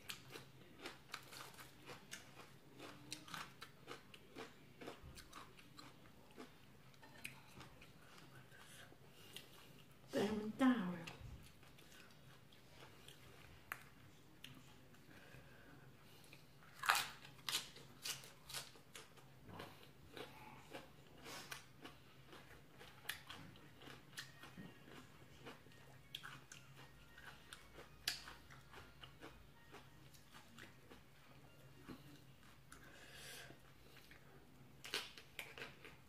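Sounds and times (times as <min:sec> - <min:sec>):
chewing crunchy raw vegetables: 0:00.0 - 0:10.0, 0:16.2 - 0:32.8, 0:33.8 - 0:36.0.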